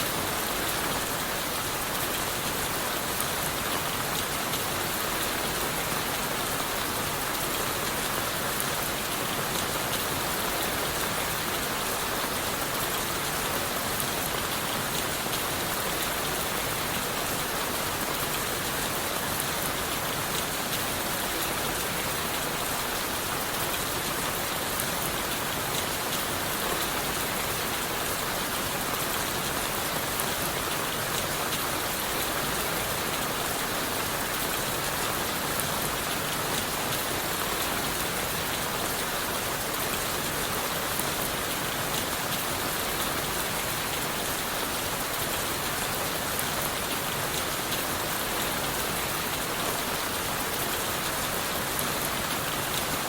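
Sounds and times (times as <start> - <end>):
rain falling on leaves: 0.0 - 53.0.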